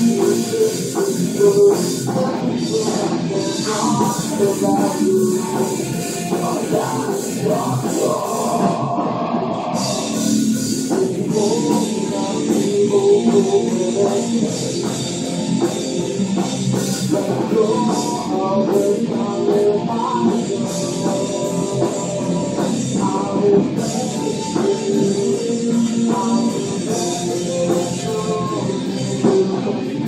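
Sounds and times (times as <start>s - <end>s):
drum kit: 0.0s - 30.0s
guitar: 0.0s - 30.0s.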